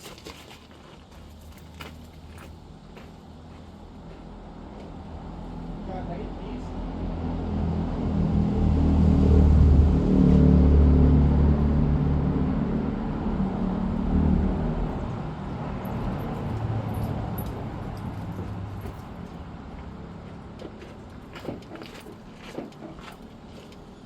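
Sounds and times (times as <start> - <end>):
vehicle engine rumble: 1.0 - 24.0.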